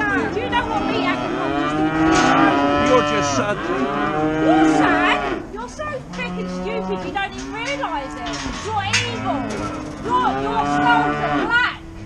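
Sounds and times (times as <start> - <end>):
cattle mooing: 0.0 - 12.0.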